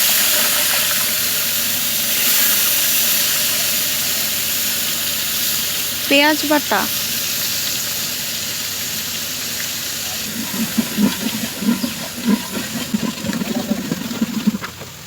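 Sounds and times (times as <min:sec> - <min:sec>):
paste sizzling in hot oil: 0:00.0 - 0:14.2.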